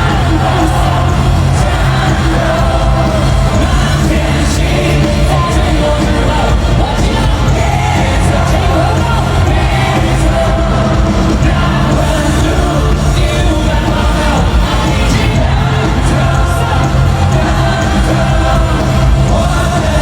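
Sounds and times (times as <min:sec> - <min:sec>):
audience yelling: 0:00.0 - 0:20.0
live pop music with singing: 0:00.0 - 0:20.0.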